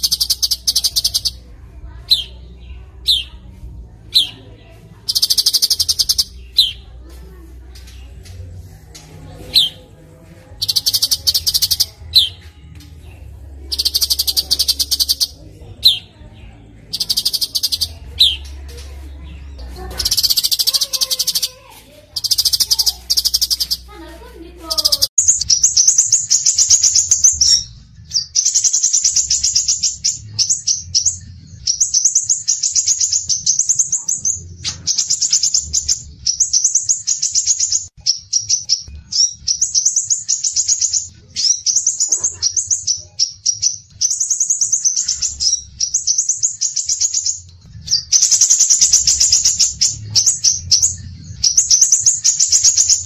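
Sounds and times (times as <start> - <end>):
rapid high bird chattering: 0.0 - 8.6, 9.4 - 9.9, 10.5 - 12.4, 13.4 - 53.0
songbird chirps and trills: 0.0 - 53.0.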